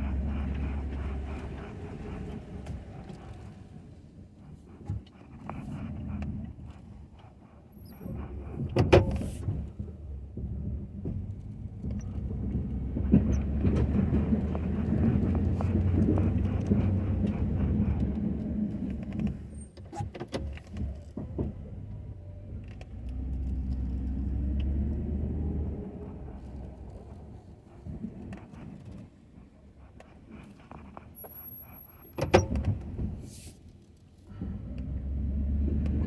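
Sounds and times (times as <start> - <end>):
truck engine running: 0.0 - 19.7, 20.5 - 33.5.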